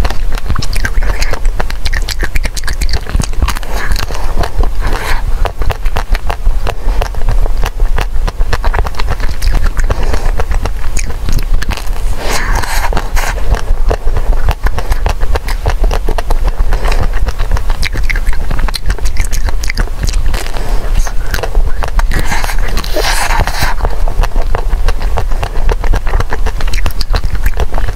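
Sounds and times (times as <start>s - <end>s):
crunching and chewing ice cream: 0.0s - 27.9s
steady low hum: 0.0s - 27.9s.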